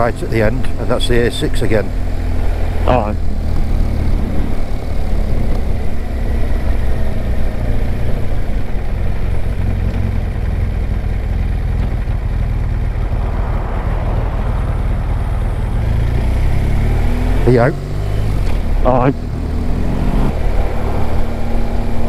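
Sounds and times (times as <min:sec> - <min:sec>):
motorcycle engine and wind rumble: 0:00.0 - 0:22.0.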